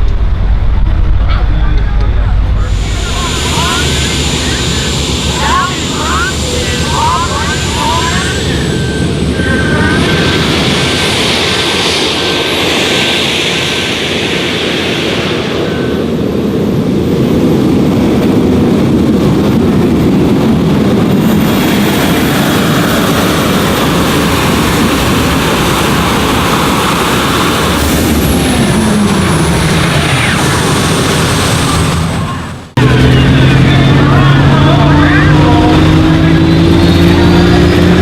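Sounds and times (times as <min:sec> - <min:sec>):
turbine tractor roaring with whine: 0:00.0 - 0:38.0.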